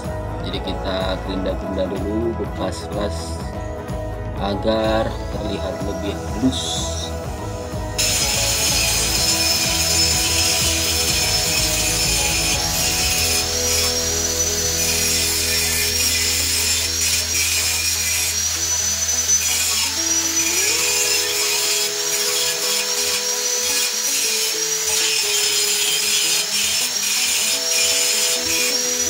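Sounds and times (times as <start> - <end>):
angle grinder grinding metal: 4.4 - 29.0.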